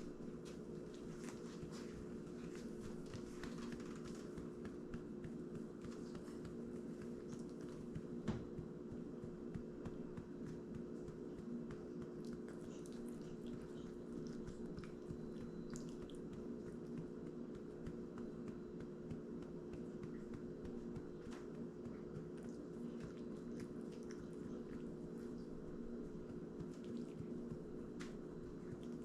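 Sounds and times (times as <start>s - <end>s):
steady low hum: 0.0s - 29.0s
dog licking and smacking mouth: 0.5s - 19.0s, 19.7s - 29.0s.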